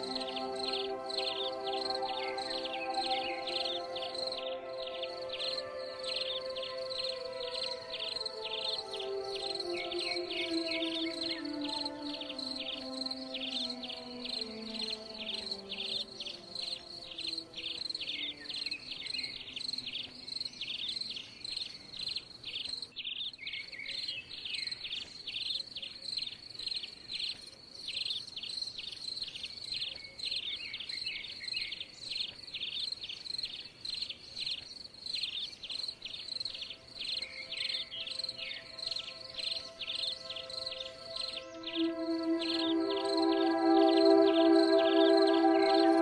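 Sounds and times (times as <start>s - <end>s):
crickets chirping: 0.0s - 23.8s, 30.9s - 46.0s.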